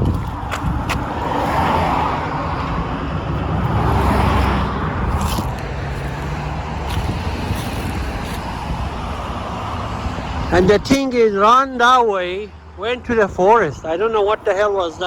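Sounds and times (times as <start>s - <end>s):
car and road rumble: 0.0s - 15.0s.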